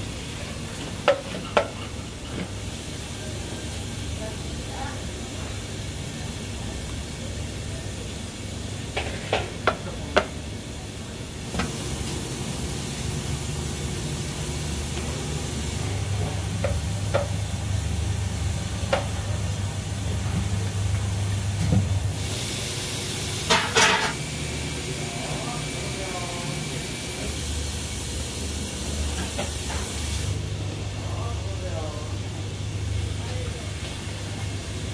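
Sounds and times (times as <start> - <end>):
steamer machinery humming: 0.0 - 34.9.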